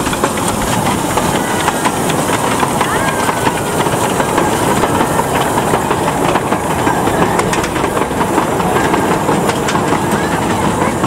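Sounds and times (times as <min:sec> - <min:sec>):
train wheels clicking and rattling: 0:00.0 - 0:11.0.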